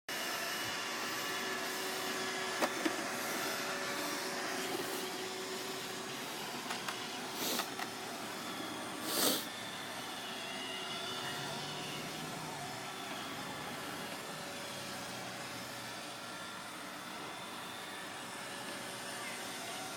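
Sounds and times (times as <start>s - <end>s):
robot vacuum humming: 0.1s - 19.9s.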